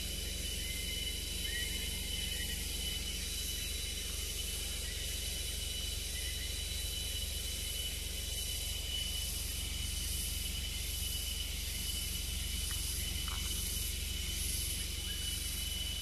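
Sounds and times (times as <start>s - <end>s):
insects buzzing: 0.0s - 16.0s
low steady rumble: 0.0s - 16.0s.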